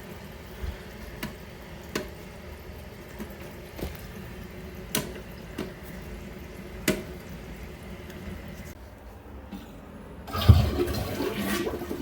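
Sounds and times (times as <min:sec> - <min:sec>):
toilet tank refilling: 0:00.0 - 0:08.8, 0:10.2 - 0:12.0.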